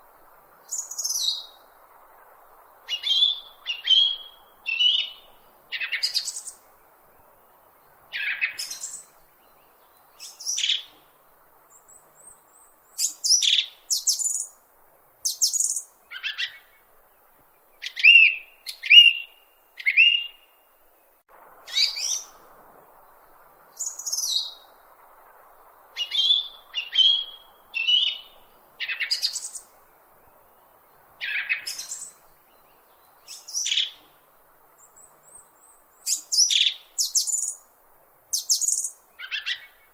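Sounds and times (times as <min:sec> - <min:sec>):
faint steady hiss: 0:00.0 - 0:39.9
bird chirping: 0:00.6 - 0:01.7, 0:02.7 - 0:07.3, 0:07.9 - 0:11.1, 0:11.7 - 0:14.6, 0:15.2 - 0:16.8, 0:17.6 - 0:20.6, 0:21.7 - 0:22.4, 0:23.0 - 0:25.0, 0:25.6 - 0:34.2, 0:34.8 - 0:37.6, 0:38.3 - 0:39.9.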